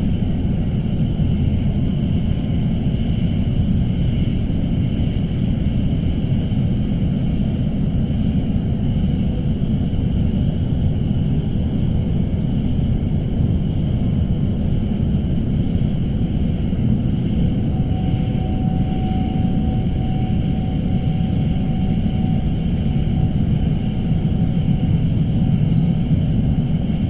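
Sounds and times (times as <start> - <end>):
low rumbling drone: 0.0 - 27.0.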